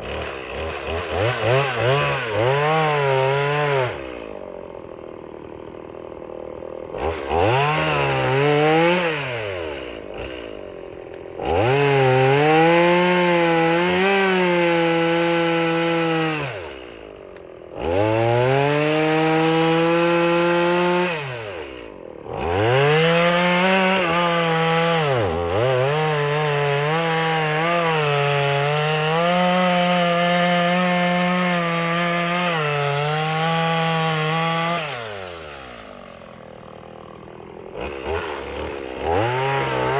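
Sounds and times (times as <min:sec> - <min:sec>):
chainsaw cutting wood: 0:00.0 - 0:39.9
chainsaw revving and idling: 0:00.0 - 0:39.9.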